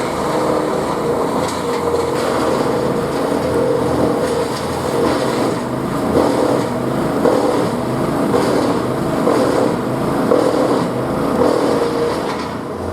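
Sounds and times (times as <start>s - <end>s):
wood chipper engine drone: 0.0s - 12.9s.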